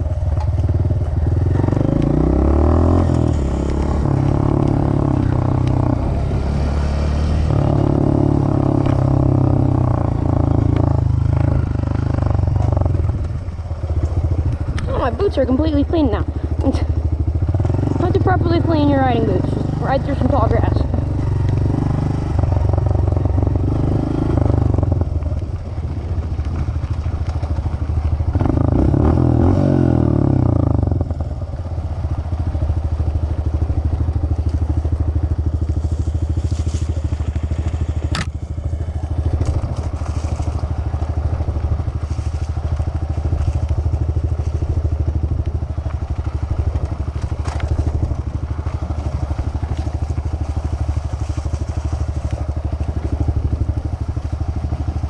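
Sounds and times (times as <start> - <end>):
dirt bike engine: 0.0 - 55.0.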